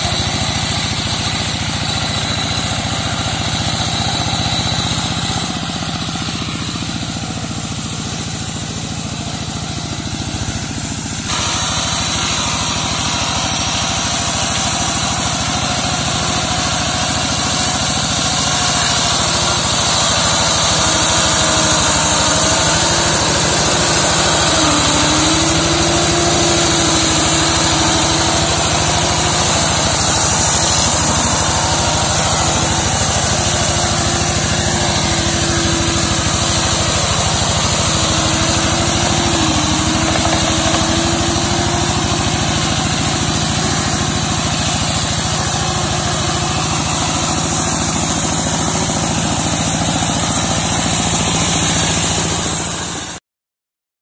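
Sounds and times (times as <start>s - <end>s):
diesel engine running: 0.0s - 53.2s.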